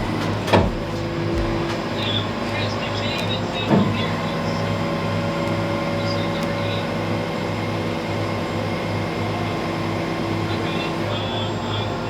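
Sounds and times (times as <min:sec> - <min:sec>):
vehicle engine pulsing hum: 0:00.0 - 0:12.0.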